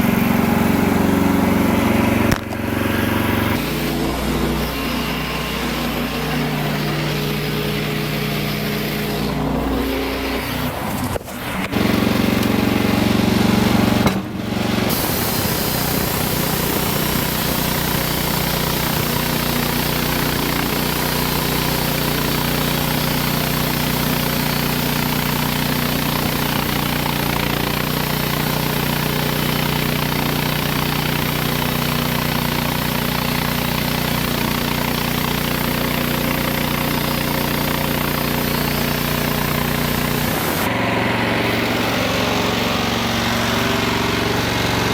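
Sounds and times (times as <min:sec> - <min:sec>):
band saw blade cutting log: 0:00.0 - 0:44.9
engine hum: 0:00.0 - 0:44.9.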